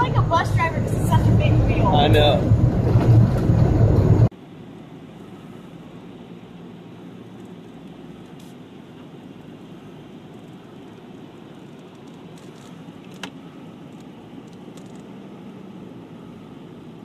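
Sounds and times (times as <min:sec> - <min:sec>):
faint vehicle hum: 0:00.0 - 0:17.0
truck engine drone inside cab: 0:00.0 - 0:17.0.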